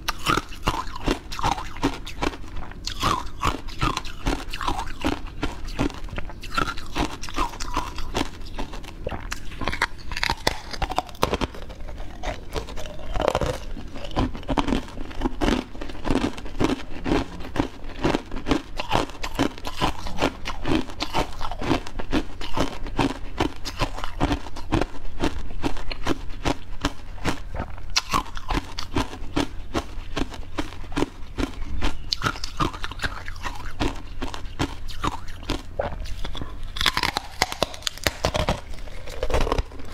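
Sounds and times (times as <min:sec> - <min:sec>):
person chewing with crunches: 0:00.0 - 0:39.9
wet mouth sounds: 0:00.0 - 0:39.9.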